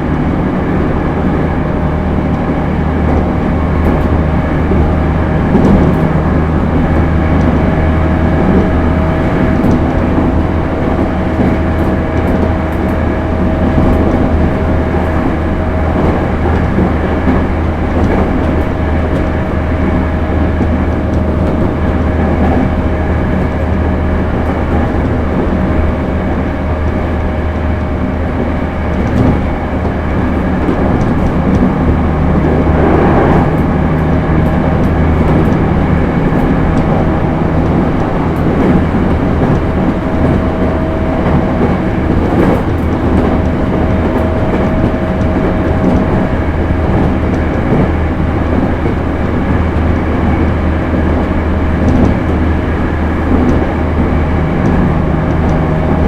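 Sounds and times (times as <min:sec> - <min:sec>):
electric train whine: 0:00.0 - 0:56.0
train wheels rumbling on rail: 0:00.0 - 0:56.0.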